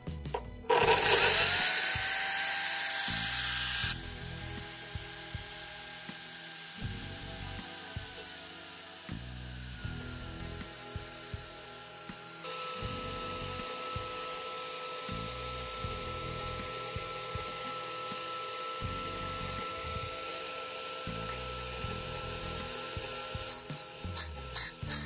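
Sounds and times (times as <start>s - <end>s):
electric drill whining: 0.3s - 25.0s
drill bit grinding on disc: 0.7s - 25.0s.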